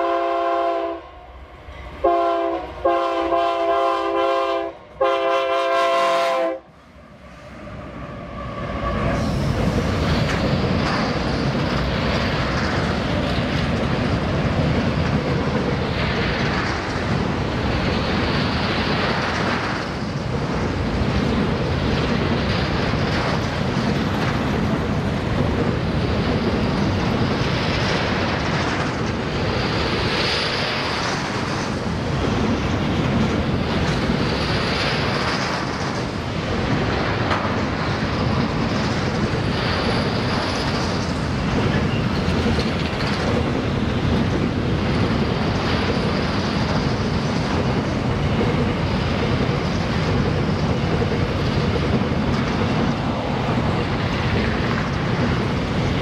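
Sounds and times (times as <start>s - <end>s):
freight train wagons rolling: 8.3s - 56.0s.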